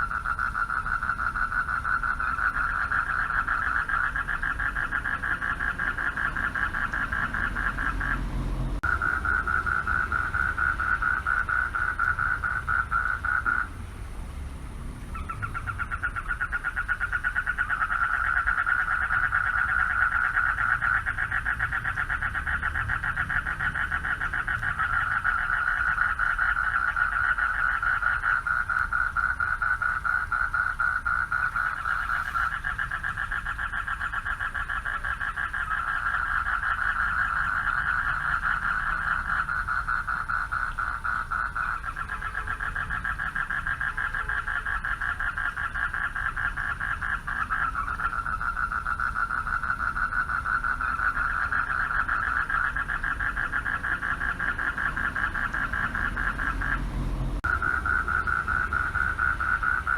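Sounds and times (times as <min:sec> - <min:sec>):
frogs trilling chorus: 0:00.0 - 0:59.9.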